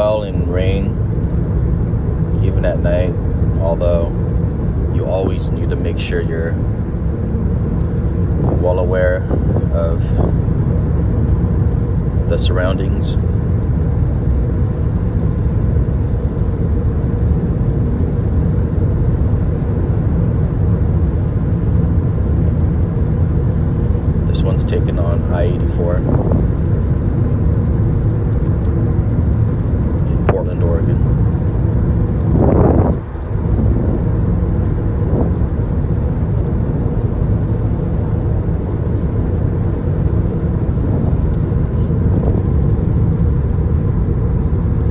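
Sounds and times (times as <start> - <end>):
road and tyre noise in car: 0.0 - 44.9.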